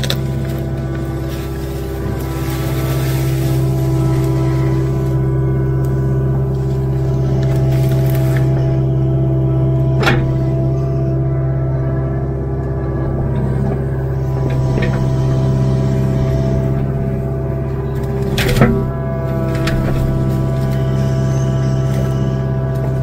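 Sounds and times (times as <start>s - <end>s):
diesel excavator engine running: 0.0s - 23.0s.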